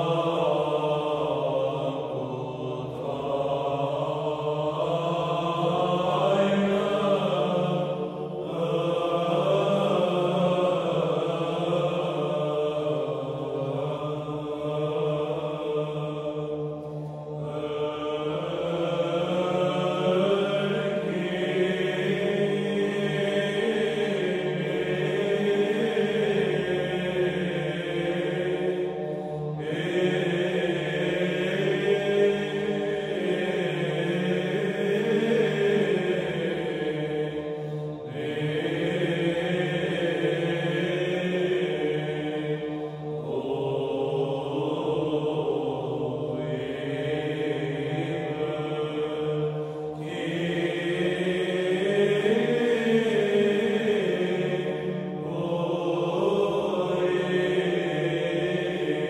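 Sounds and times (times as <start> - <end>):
low voices chanting: 0.0 - 59.0.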